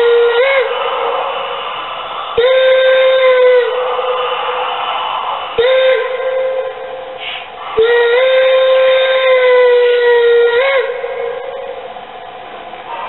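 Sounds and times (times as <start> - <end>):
steam hiss: 0.0 - 13.0
steam whistle: 0.0 - 13.0.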